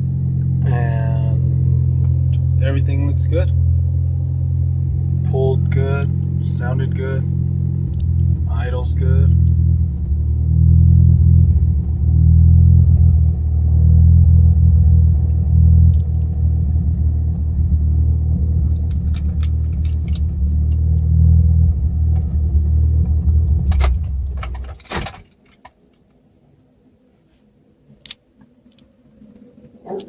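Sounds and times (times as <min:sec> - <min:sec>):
car engine idling: 0:00.0 - 0:25.5.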